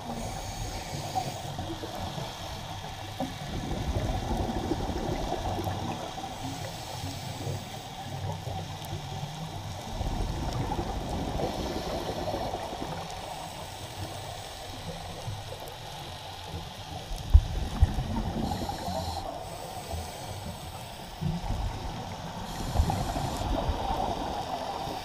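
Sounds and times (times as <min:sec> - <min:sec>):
muffled underwater rush and gurgle: 0:00.0 - 0:25.0.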